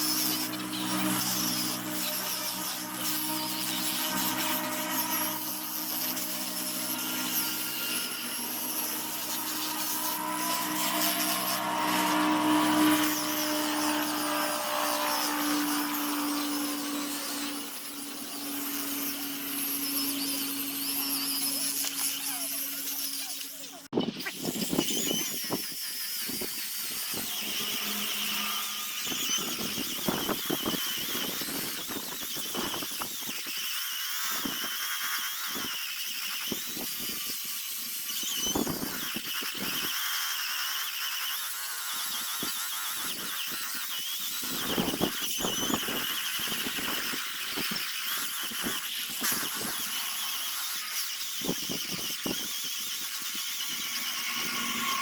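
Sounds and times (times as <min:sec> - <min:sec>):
power sander whining: 0:00.0 - 0:39.9, 0:41.0 - 0:55.0
sander scraping wood: 0:00.0 - 0:55.0.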